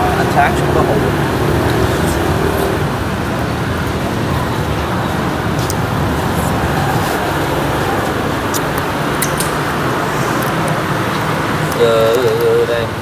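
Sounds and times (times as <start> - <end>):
motorbike traffic: 0.0 - 13.0.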